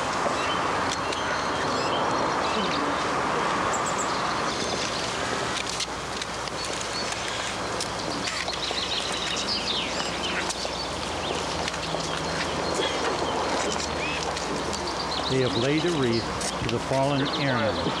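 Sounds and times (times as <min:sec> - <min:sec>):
birds chirping: 0:00.0 - 0:18.0
steady outdoor hiss: 0:00.0 - 0:18.0.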